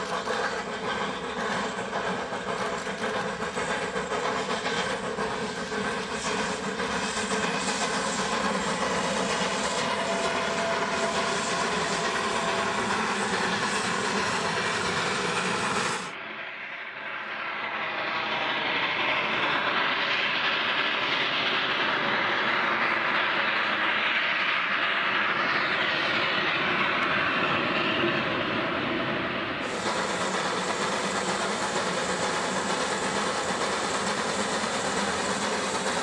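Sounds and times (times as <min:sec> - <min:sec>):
steam hiss: 0:00.0 - 0:36.0
steam locomotive exhaust: 0:00.0 - 0:36.0.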